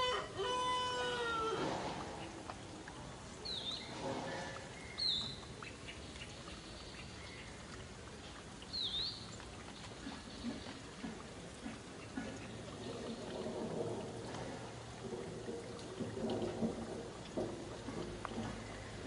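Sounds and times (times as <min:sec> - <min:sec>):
quiet outdoor ambience: 0:00.0 - 0:19.0.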